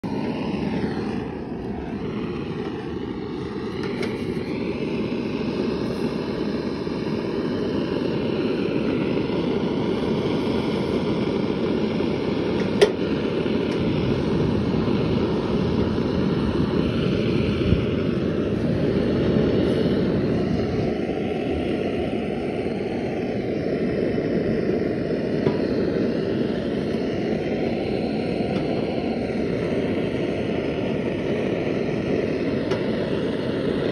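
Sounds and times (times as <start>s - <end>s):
soldering iron burner roaring: 0.0s - 33.9s.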